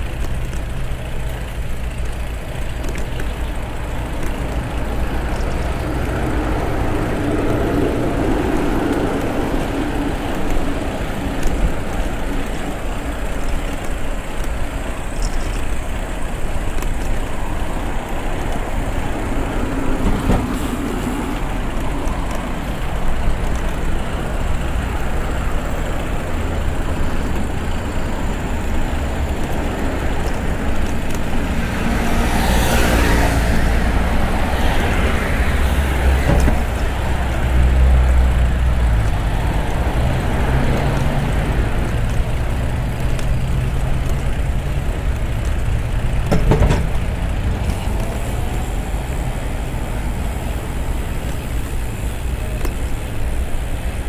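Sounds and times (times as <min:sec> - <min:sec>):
road traffic noise: 0:00.0 - 0:54.0
vehicle passing close: 0:03.6 - 0:13.3, 0:17.3 - 0:54.0.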